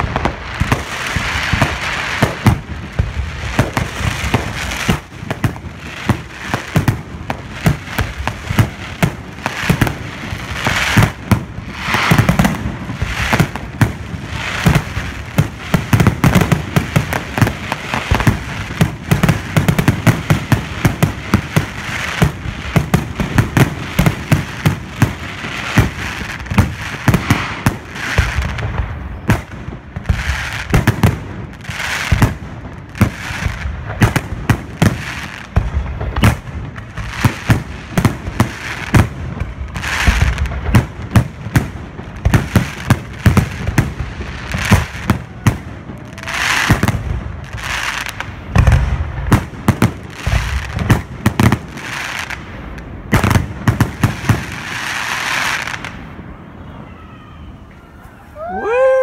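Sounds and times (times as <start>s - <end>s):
firework crackling: 0.0s - 59.0s.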